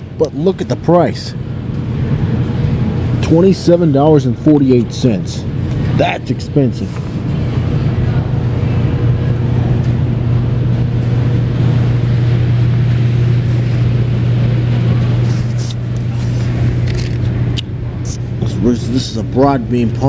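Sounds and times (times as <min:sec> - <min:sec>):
loud low-pitched hum: 0:00.0 - 0:20.0.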